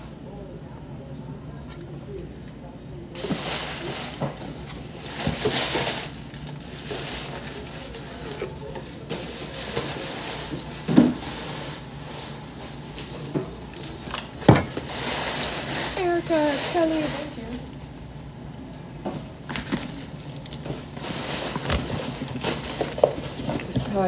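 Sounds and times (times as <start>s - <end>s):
paper and plastic rustling: 3.2s - 24.0s.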